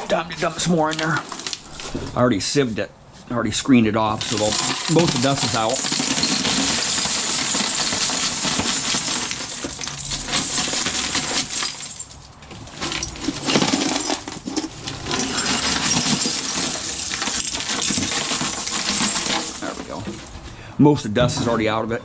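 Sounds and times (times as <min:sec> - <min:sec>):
small metal pieces clinking: 0:00.5 - 0:01.9, 0:04.2 - 0:20.6.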